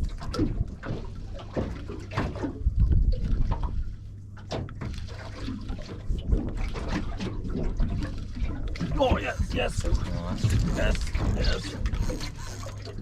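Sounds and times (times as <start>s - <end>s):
steady low rumble: 0.0s - 12.2s
water splashing against boat hull: 0.0s - 13.0s.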